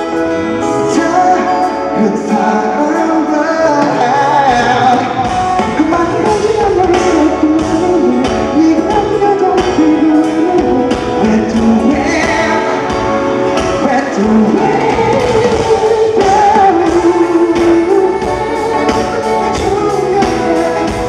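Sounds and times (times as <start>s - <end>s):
live pop concert music: 0.0s - 21.0s.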